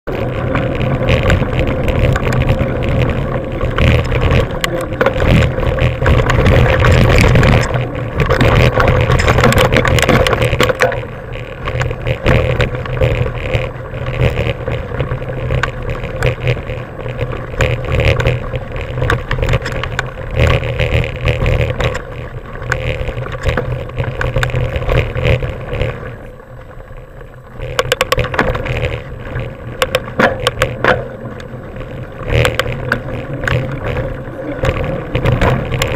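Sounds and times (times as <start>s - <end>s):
bike rattling and knocking: 0.0s - 35.9s
wind rumbling on microphone: 0.0s - 35.9s
tyres crunching over gravel: 0.1s - 35.9s.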